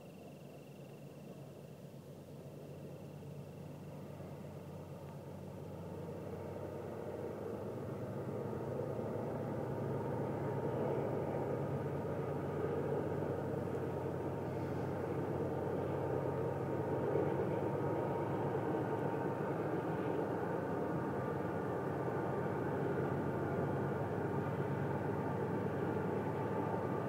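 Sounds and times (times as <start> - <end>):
distant train rumbling: 2.1 - 27.0.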